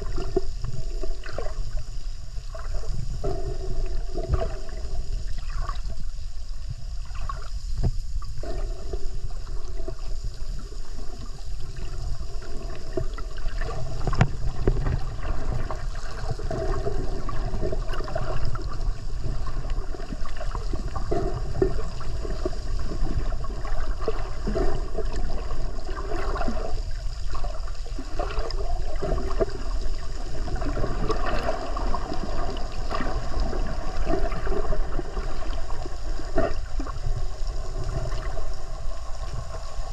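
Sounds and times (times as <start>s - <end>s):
steady low rumble: 0.0s - 39.9s
underwater water sloshing and gurgling: 0.0s - 39.9s.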